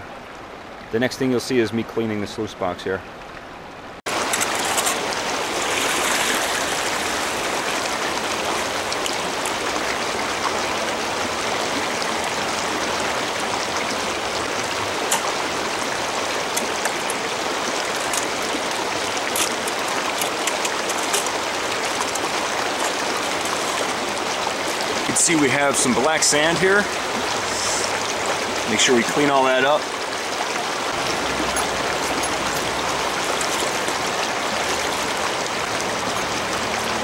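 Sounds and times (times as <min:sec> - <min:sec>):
creek water running: 0:00.0 - 0:37.0.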